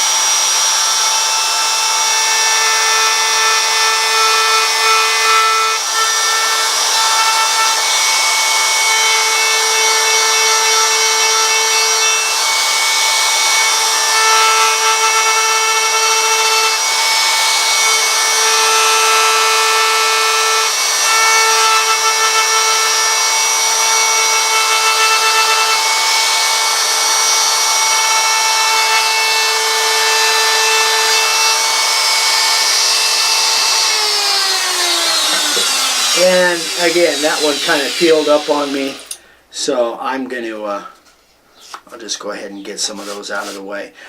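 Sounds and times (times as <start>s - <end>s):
wood router whining: 0.0s - 39.2s, 42.8s - 43.6s.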